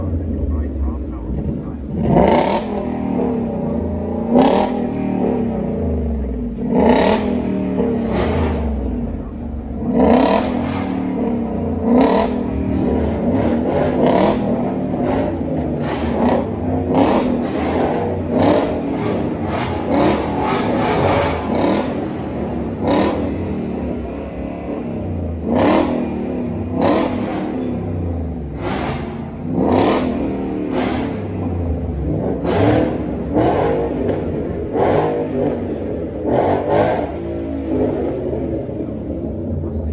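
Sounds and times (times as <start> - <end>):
engines revving: 0.0 - 39.9.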